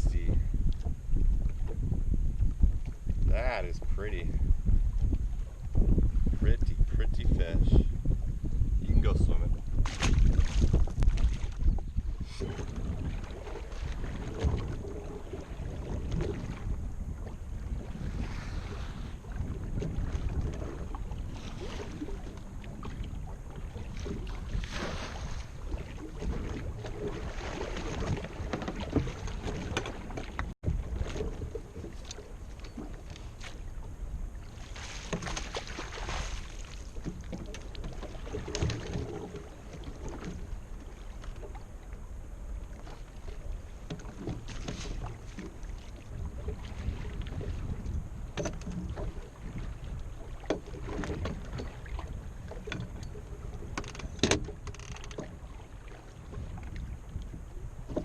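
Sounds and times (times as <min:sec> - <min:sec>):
wind and water rumble: 0:00.0 - 0:58.0.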